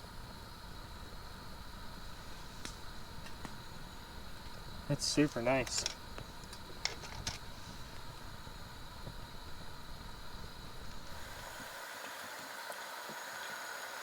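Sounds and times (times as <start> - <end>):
propane fire rushing hiss: 0.0 - 14.0.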